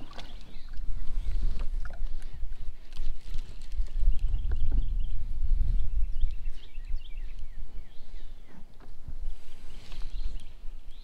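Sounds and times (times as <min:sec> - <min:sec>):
small birds chirping: 0:00.0 - 0:01.5, 0:02.1 - 0:11.0
wind rumbling on microphone: 0:00.0 - 0:11.0.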